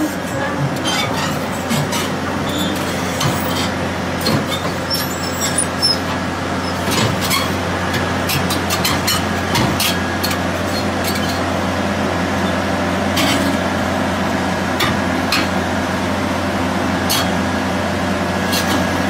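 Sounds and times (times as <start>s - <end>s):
truck diesel engine droning: 0.0s - 19.0s.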